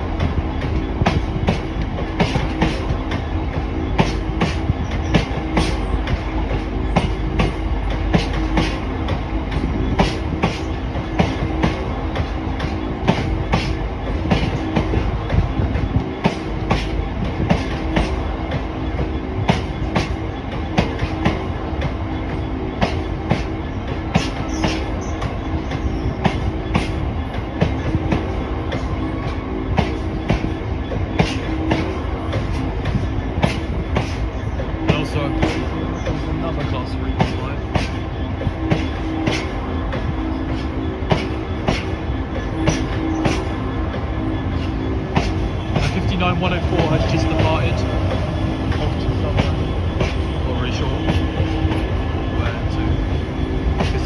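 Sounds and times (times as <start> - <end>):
train rumble with hum: 0.0 - 54.0
train wheels clicking over rail joints: 0.0 - 54.0.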